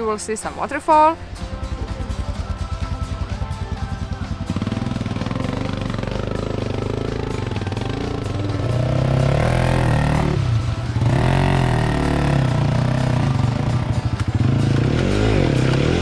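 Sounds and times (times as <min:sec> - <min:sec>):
motorcycle engine revving: 0:00.9 - 0:16.0.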